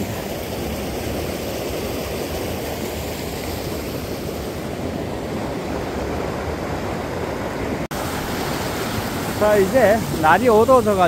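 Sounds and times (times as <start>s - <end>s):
river water rushing over weir: 0.0s - 11.0s.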